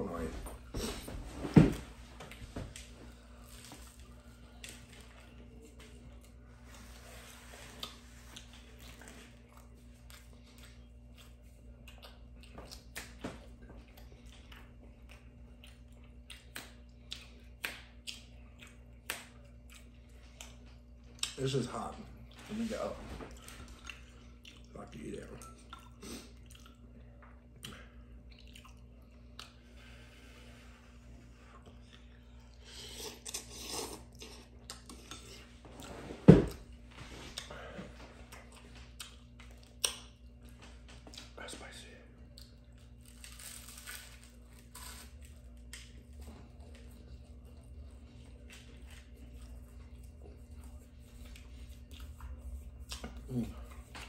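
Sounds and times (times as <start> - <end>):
chewing and smacking mouth sounds: 1.7 - 22.5, 23.1 - 54.0.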